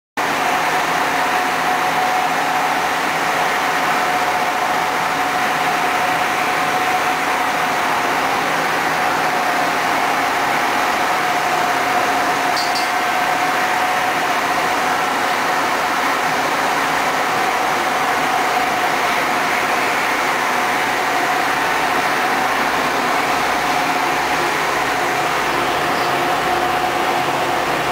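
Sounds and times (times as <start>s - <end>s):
ship machinery drone: 0.2s - 27.9s.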